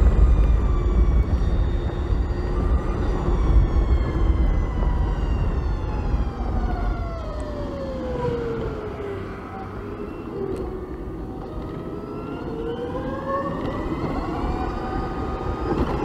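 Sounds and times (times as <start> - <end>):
electric scooter motor whine: 0.0 - 16.0
wind rumble on microphone: 0.0 - 16.0.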